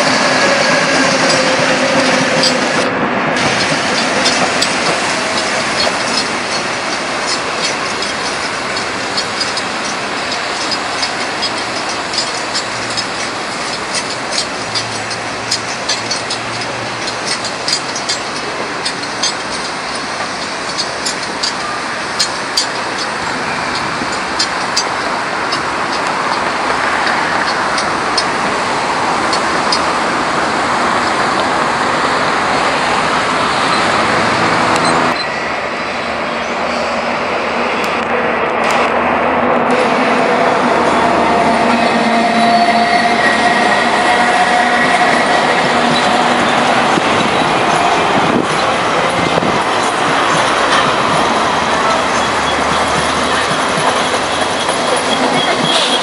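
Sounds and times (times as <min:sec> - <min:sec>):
train rolling rumble: 0:00.0 - 0:56.0
train wheels clicking on rails: 0:00.0 - 0:56.0.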